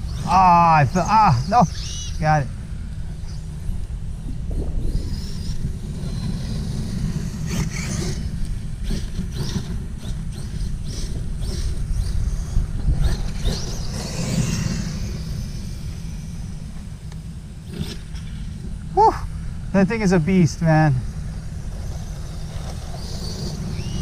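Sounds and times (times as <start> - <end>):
rc truck motor whining: 0.0 - 18.7, 21.0 - 24.0
steady low rumble: 0.0 - 24.0.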